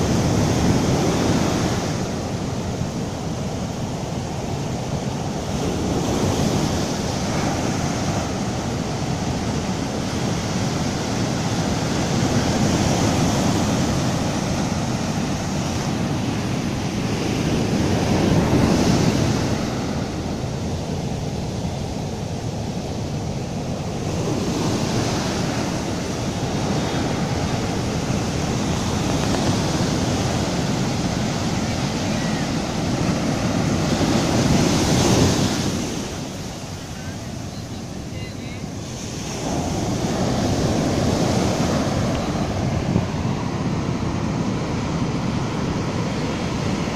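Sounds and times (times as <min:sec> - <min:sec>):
waves breaking on sand: 0:00.0 - 0:46.9.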